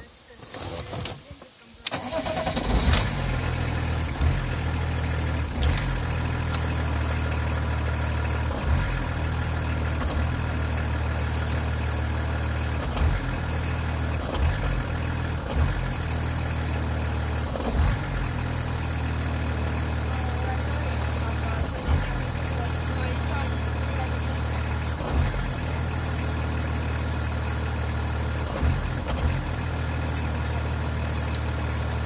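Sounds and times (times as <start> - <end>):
diesel engine idling unevenly: 2.0 - 32.0.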